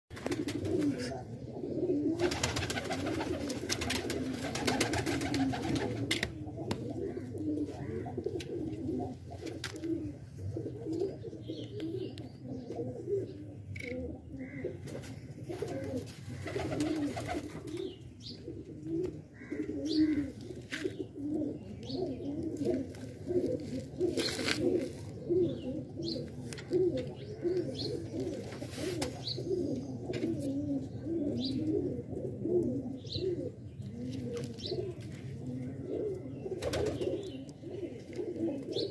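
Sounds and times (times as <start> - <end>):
pigeons cooing: 0.2 - 38.9.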